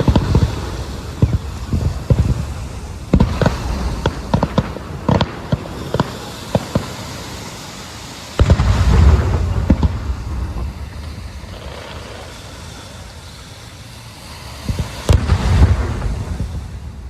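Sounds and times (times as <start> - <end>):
fireworks deep booms: 0.0 - 7.7, 8.4 - 13.6, 14.3 - 17.0
fireworks bangs and pops: 0.0 - 17.0.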